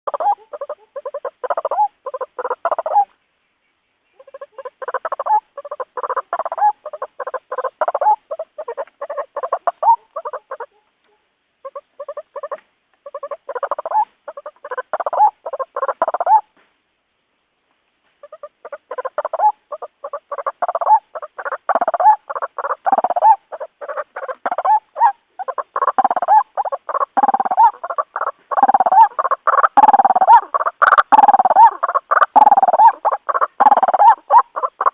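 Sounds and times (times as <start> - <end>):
bird repeated call notes: 0.1 - 16.6, 18.2 - 34.9.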